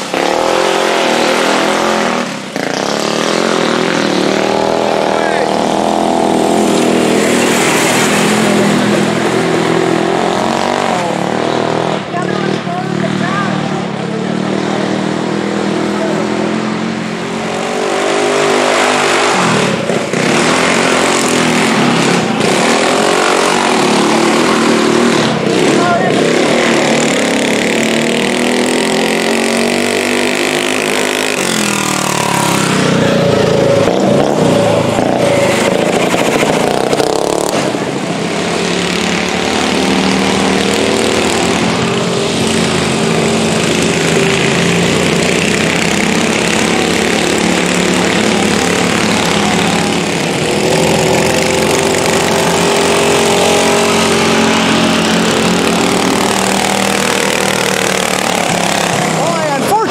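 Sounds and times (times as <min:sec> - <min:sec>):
lawn mower engines revving: 0:00.0 - 0:59.9.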